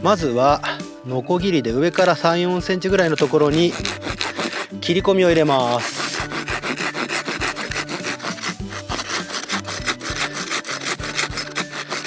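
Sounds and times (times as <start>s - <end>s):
hand saw cutting wood: 1.9s - 12.0s.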